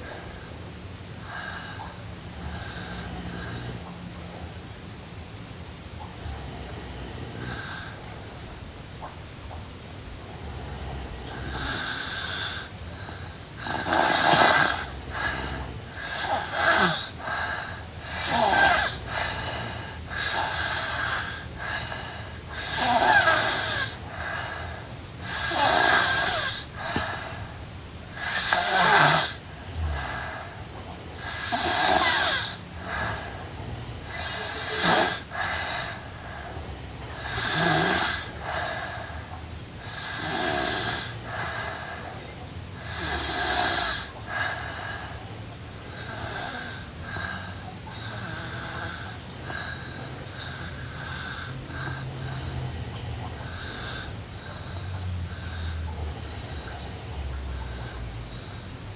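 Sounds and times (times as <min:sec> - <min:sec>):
quiet breathing: 0:00.0 - 0:58.9
girl snoring: 0:01.2 - 0:03.9, 0:06.2 - 0:08.5, 0:10.3 - 0:41.8, 0:42.8 - 0:45.2, 0:45.8 - 0:58.7.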